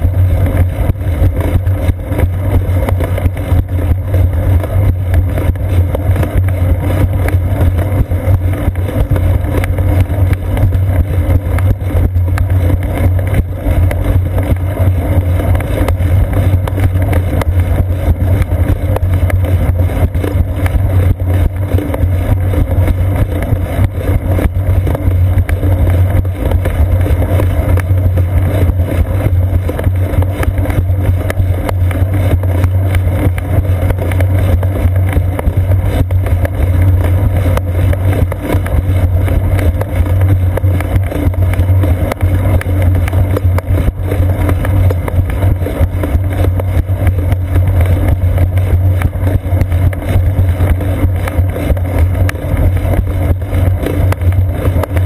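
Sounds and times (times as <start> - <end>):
bicycle ride vibration rumble: 0.0 - 55.0.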